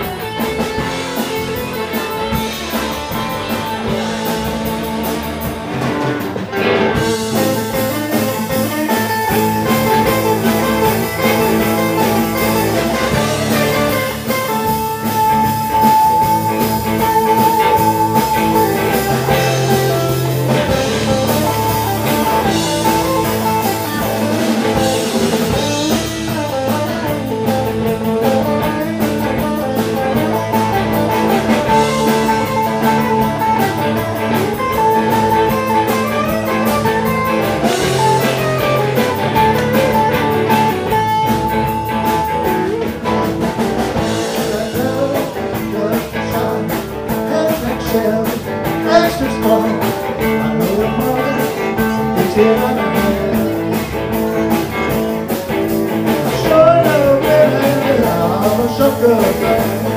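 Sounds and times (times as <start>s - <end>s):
blues band playing: 0.0s - 59.9s
electric guitar lead lines: 0.0s - 59.9s.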